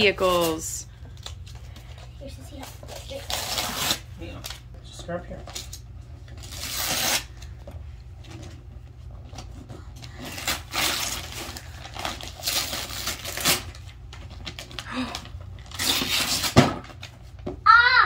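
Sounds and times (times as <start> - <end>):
wrapping paper rustling and tearing: 0.0 - 7.6, 8.2 - 17.4.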